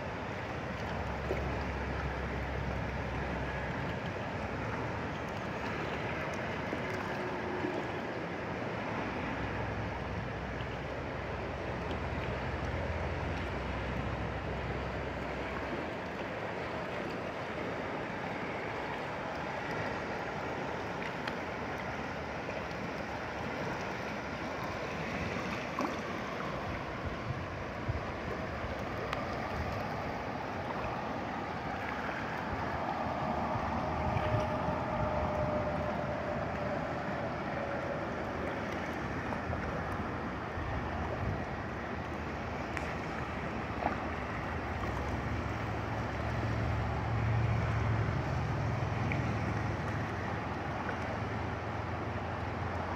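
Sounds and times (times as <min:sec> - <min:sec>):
river rushing over rocks: 0:00.0 - 0:52.9.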